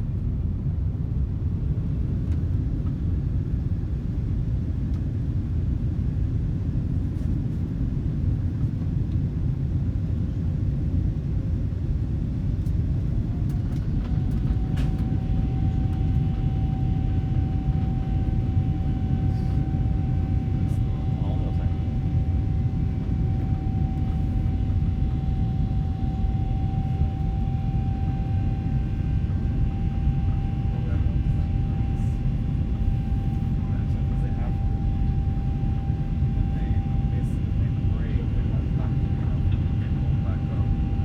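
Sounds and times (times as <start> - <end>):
low aircraft cabin rumble: 0.0 - 41.0
rising jet engine whine: 0.0 - 41.0.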